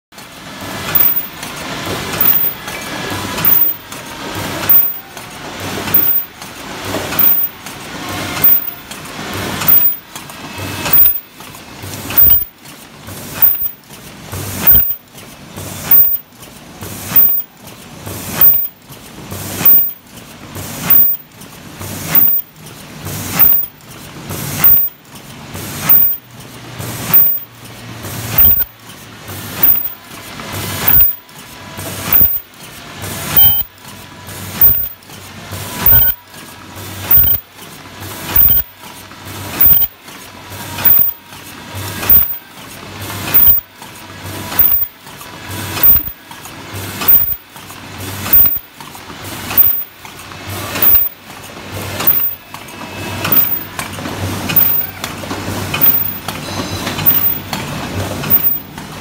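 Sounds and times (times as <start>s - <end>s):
forming machine running: 0.2s - 59.0s.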